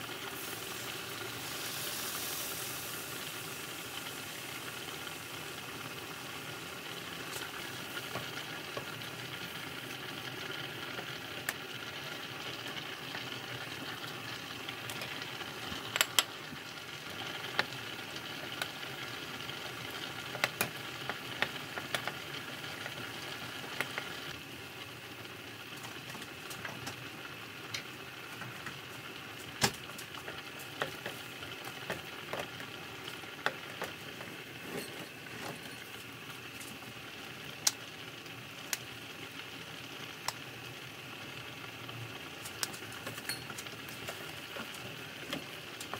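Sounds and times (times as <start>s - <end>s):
sauce simmering in a pan: 0.0s - 45.9s.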